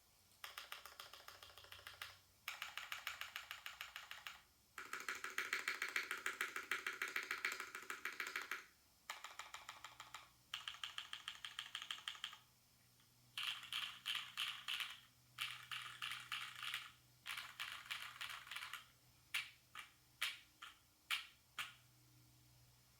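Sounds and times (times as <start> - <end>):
fast typing on mechanical keyboard: 0.4 - 12.4, 13.4 - 21.8.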